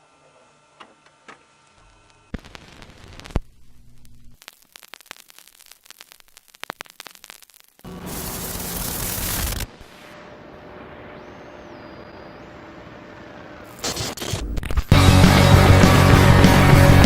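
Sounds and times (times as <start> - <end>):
crackling static: 1.6 - 17.0.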